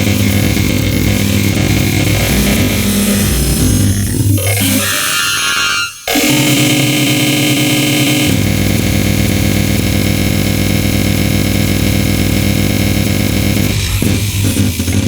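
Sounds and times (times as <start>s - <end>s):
deep synth bass: 0.0s - 4.8s, 6.6s - 15.0s
synthesized droning chord: 0.0s - 15.0s.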